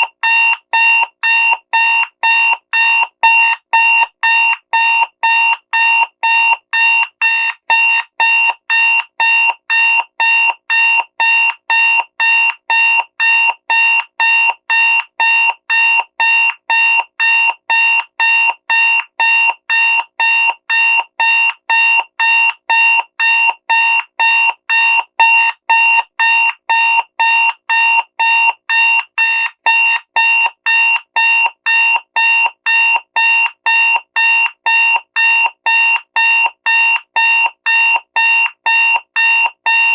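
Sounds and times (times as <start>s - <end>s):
alarm clock beeping: 0.0s - 39.9s.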